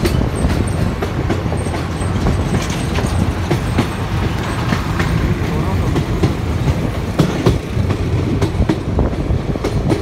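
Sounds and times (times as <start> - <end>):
train rumble inside carriage: 0.0 - 10.0
wheels clacking over rail joints: 0.0 - 10.0.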